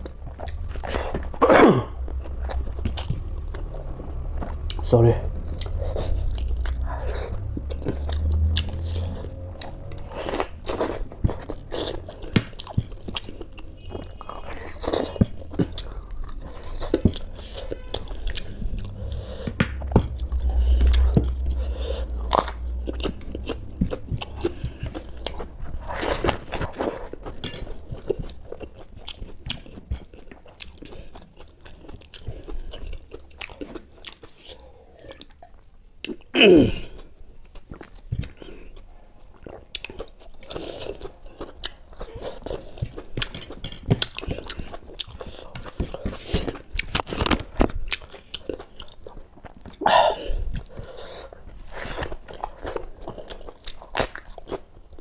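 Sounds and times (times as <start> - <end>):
man chewing food: 0.0 - 55.0.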